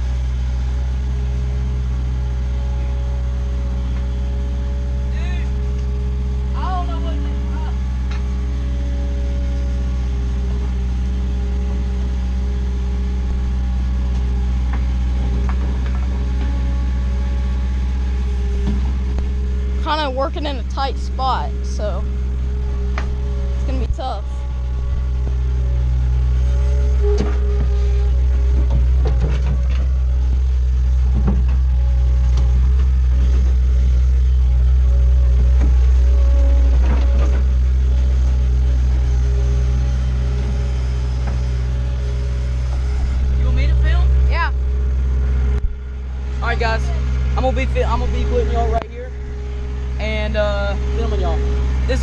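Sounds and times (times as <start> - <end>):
skid steer engine running: 0.0 - 52.0.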